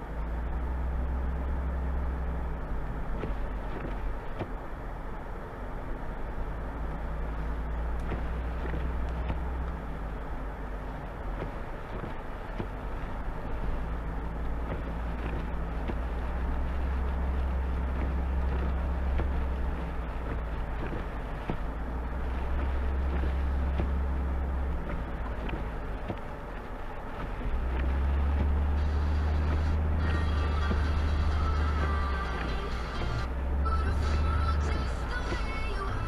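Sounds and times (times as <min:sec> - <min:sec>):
motor vehicle engine rumble: 0:00.0 - 0:36.0
road and wind noise: 0:00.0 - 0:36.0.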